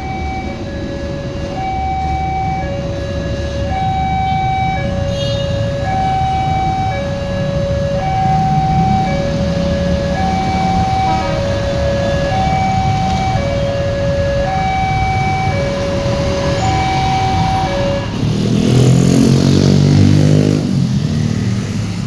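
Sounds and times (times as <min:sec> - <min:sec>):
level crossing two-tone alarm: 0:00.0 - 0:19.2.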